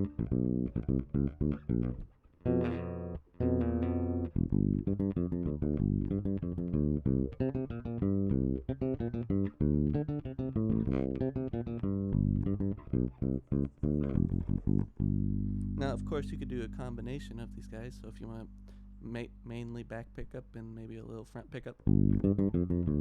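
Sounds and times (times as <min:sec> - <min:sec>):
electric bass plucked notes: 0:00.0 - 0:23.0.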